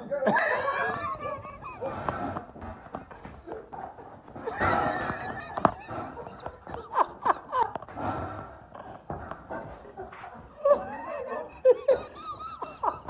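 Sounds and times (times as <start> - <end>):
people laughing and squealing: 0.0 - 13.0.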